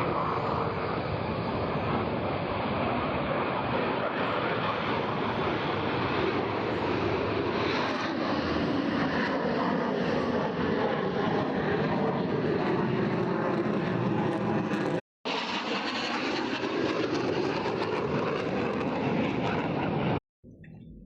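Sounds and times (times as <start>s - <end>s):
aircraft engine rushing: 0.0s - 20.2s.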